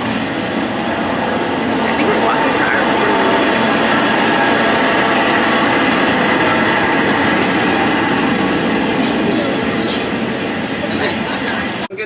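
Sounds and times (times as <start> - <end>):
suitcase wheels rolling on pavement: 0.0 - 11.9.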